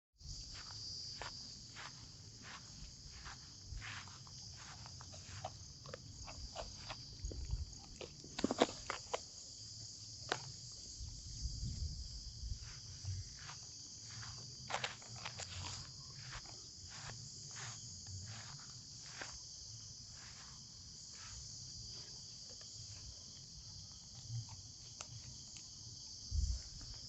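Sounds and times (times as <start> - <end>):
insects chorus: 0.2 - 27.0.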